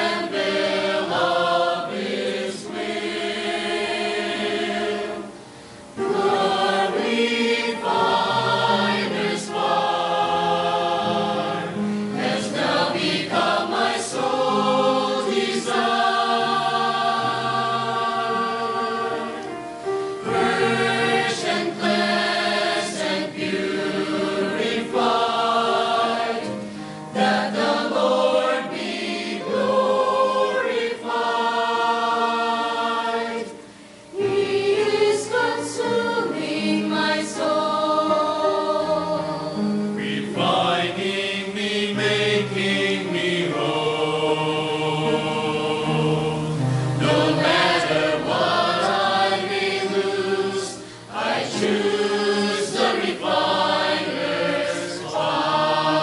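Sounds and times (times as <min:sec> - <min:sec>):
church choir singing: 0:00.0 - 0:56.0
piano accompaniment: 0:00.0 - 0:56.0.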